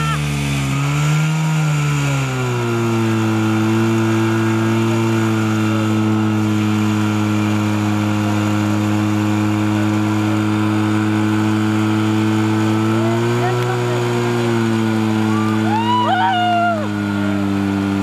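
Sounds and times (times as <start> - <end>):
pump engine running hard: 0.0 - 18.0.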